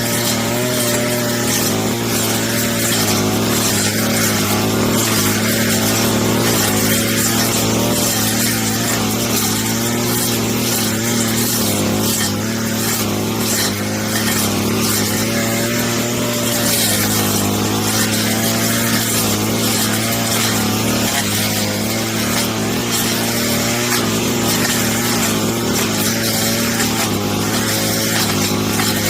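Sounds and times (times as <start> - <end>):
brush cutter running: 0.0 - 29.0.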